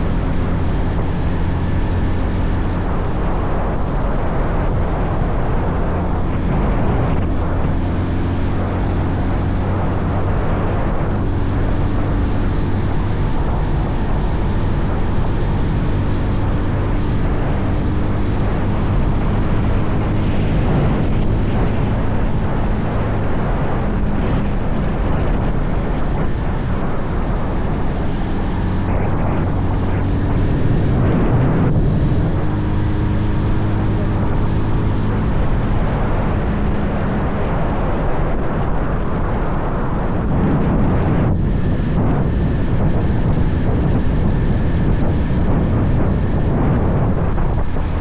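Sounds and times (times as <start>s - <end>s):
wind rush on microphone: 0.0s - 48.0s.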